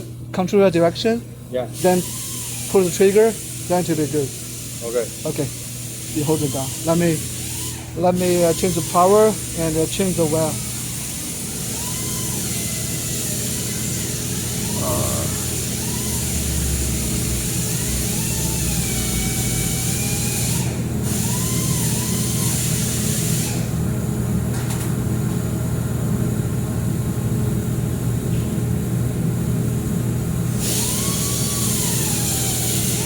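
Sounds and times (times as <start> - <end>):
cooling unit hum: 0.0 - 33.0.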